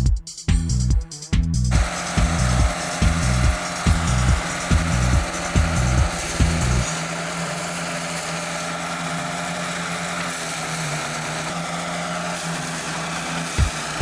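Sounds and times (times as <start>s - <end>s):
petrol engine running: 1.7s - 14.0s.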